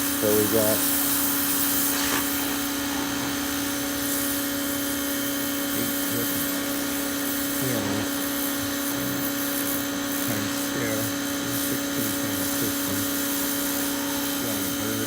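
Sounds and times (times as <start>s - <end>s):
motor droning hum: 0.0s - 15.0s.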